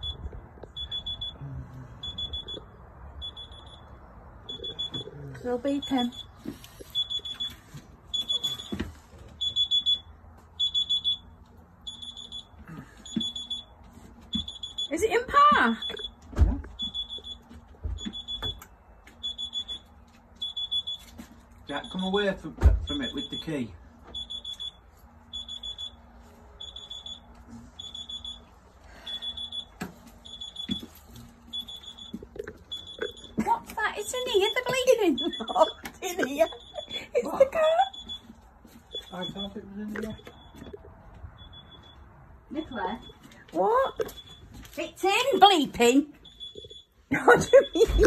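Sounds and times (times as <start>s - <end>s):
alarm beeping: 0.0s - 48.0s.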